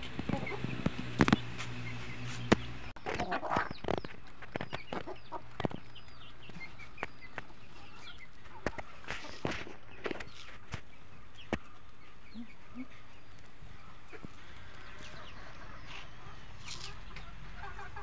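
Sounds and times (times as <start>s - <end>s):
chicks peeping: 0.0s - 18.0s
hens clucking: 0.0s - 18.0s.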